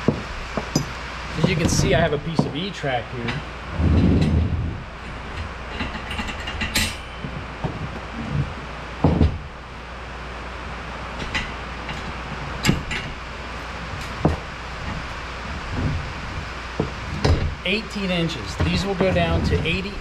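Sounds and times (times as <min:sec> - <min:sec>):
metal knocks: 0:00.0 - 0:09.6, 0:11.2 - 0:13.3, 0:14.0 - 0:20.0.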